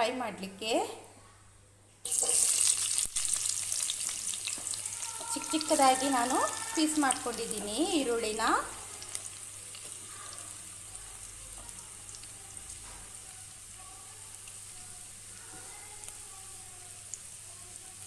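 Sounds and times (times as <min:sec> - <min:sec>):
onions sizzling in oil: 0:02.0 - 0:18.0.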